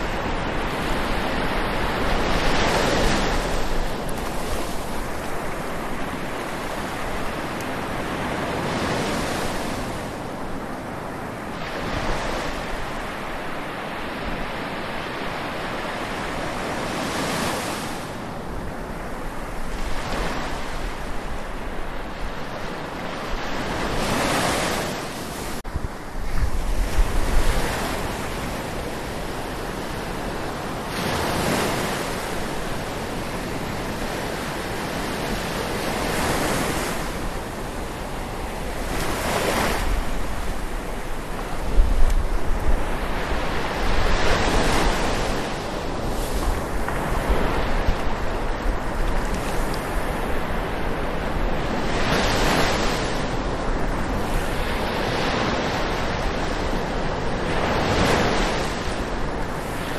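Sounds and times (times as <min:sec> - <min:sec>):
ocean waves washing on shore: 0:00.0 - 0:59.9
wind rumbling on microphone: 0:00.0 - 0:59.9.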